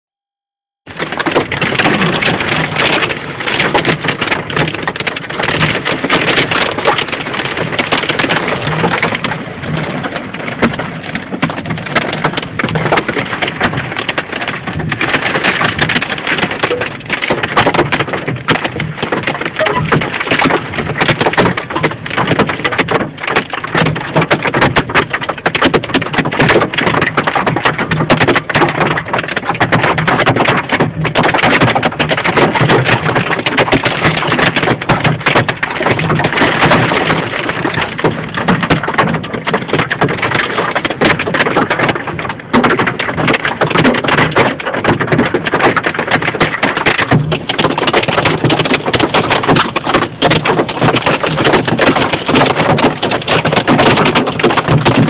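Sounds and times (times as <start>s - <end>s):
hail hitting vehicle roof: 0.9s - 55.0s
heavy rain: 0.9s - 55.0s.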